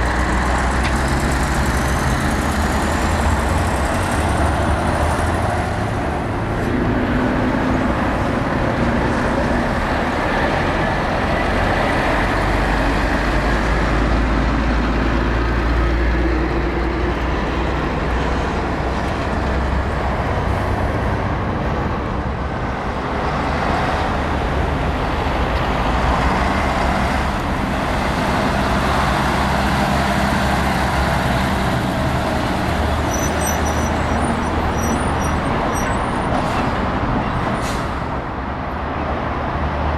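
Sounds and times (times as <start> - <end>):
heavy diesel trucks passing: 0.0 - 39.9
tyre and traffic noise: 0.0 - 39.9.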